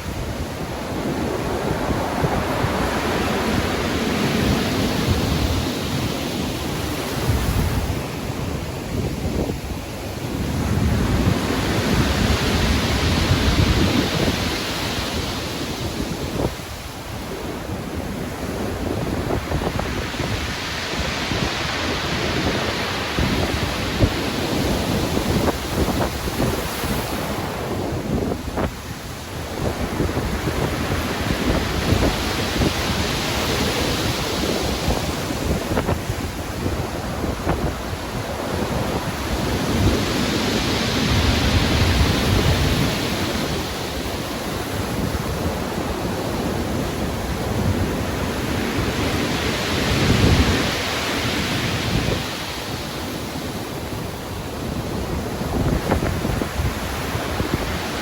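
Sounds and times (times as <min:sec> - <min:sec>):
stormy sea waves breaking: 0:00.0 - 0:58.0.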